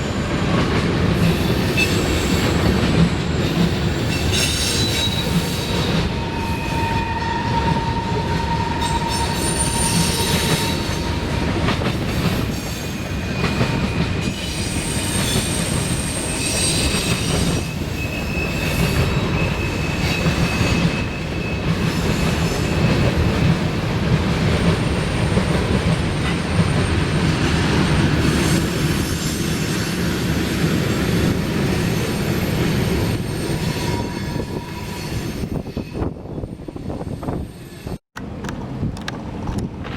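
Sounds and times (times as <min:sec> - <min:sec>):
train cars rumbling past: 0:00.0 - 0:39.9.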